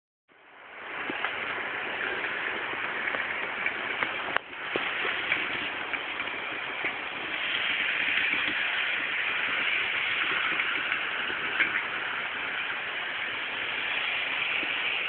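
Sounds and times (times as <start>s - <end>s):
model train motor whirring: 1.0s - 15.0s.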